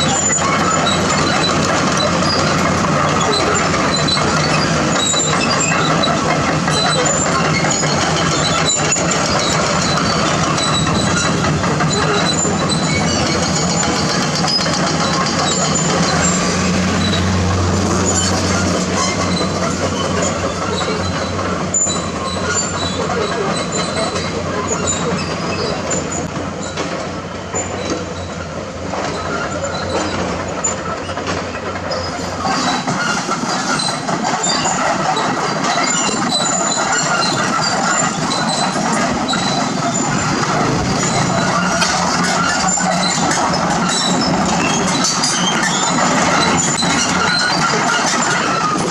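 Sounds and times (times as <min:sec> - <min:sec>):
excavator diesel engine under load: 0:00.0 - 0:48.9.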